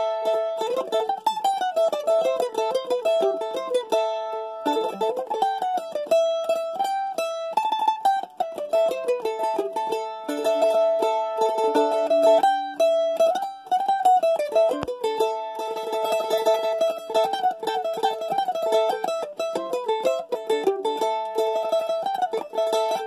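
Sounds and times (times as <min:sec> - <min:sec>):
mandolin melody: 0:00.0 - 0:23.0.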